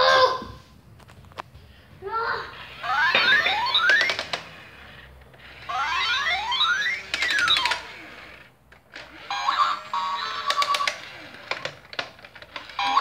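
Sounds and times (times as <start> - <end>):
toy electronic sound effects: 2.5 - 13.0.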